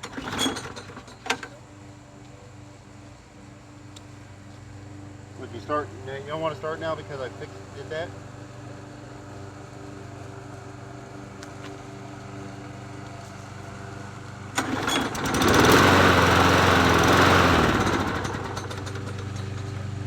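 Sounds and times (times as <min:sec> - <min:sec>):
push mower engine running: 0:00.0 - 0:02.2, 0:04.2 - 0:20.0.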